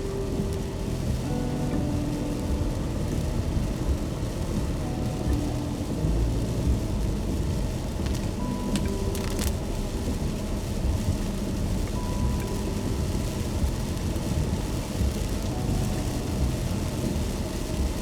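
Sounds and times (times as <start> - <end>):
car road rumble: 0.0 - 18.0
faint music of held notes: 0.0 - 18.0
rain noise: 0.0 - 18.0.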